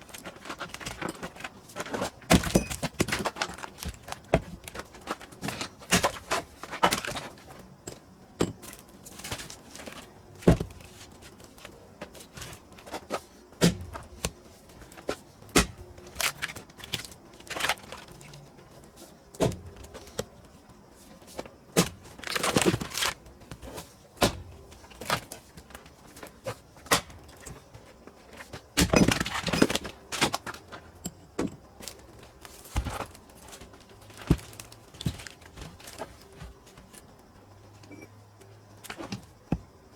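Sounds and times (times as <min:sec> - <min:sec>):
wood pieces clattering and rustling: 0:00.0 - 0:39.7.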